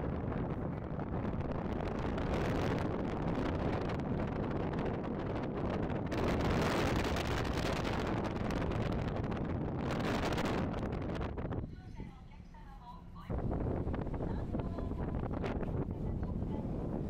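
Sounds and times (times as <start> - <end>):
low rumble: 0.0 - 17.0
wind buffeting microphone: 0.0 - 17.0.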